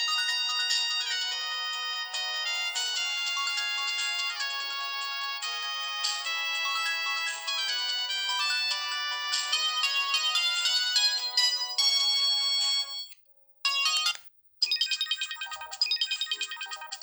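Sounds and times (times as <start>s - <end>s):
phone ringtone melodies: 0.0s - 13.1s, 13.7s - 17.0s.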